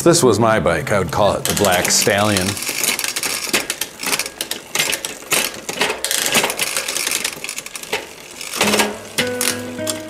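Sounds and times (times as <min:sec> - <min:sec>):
bicycle chain clicking over cogs: 0:00.4 - 0:10.0.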